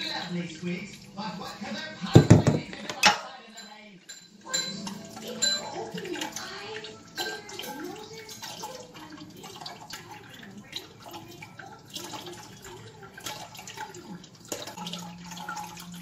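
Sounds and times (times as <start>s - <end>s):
liquid trickling and dripping: 0.0s - 2.2s, 3.5s - 16.0s.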